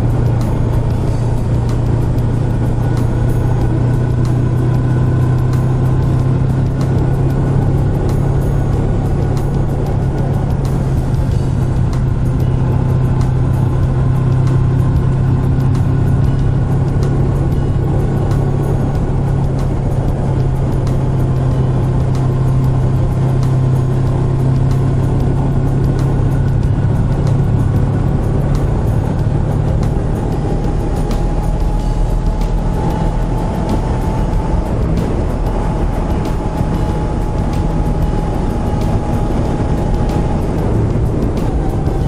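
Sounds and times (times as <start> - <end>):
motorcycle engine cruising: 0.0 - 42.0
road noise: 0.0 - 42.0.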